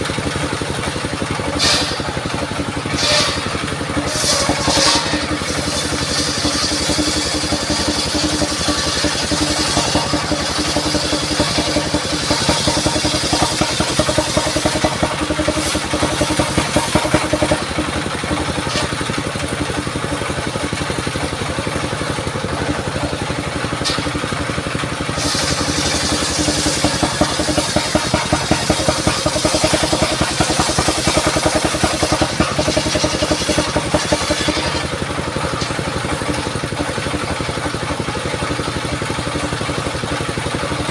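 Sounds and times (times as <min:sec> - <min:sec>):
engine-driven circular saw running: 0:00.0 - 0:40.9.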